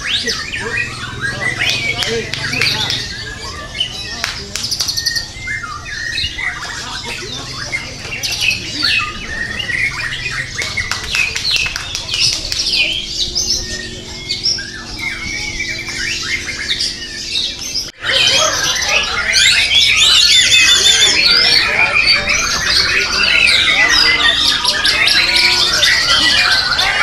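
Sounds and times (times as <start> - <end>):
bird singing whistled phrases: 0.0 - 11.7, 12.6 - 27.0.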